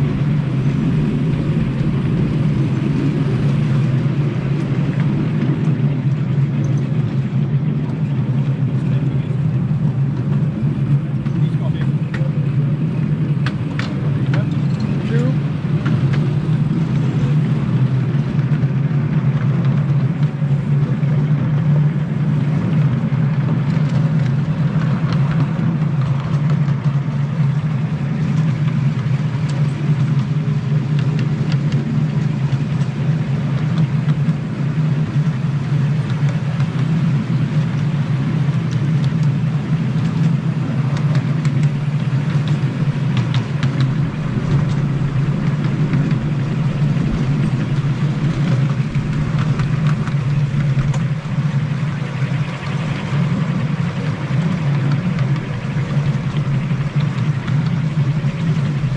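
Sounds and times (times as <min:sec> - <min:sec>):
small engine running steadily: 0:00.0 - 0:58.9
faint clicks and ticks: 0:03.4 - 0:12.6, 0:13.2 - 0:58.9.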